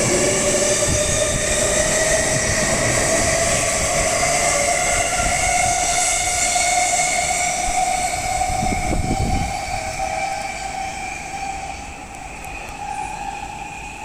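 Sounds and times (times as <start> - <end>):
electric train motor whine: 0.0 - 14.0
wheels rumbling on rails: 0.0 - 14.0.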